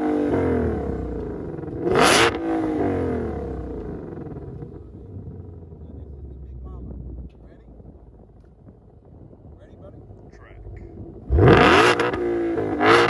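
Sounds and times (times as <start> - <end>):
car engine revving and idling: 0.0 - 13.0.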